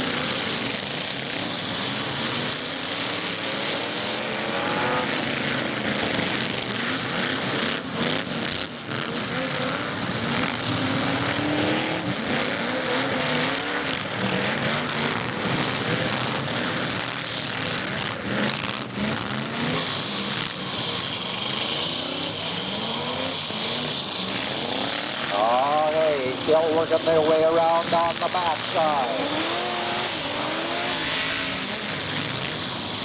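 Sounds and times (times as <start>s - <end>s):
steady din of noise: 0.0s - 33.0s
truck engines revving: 0.0s - 33.0s.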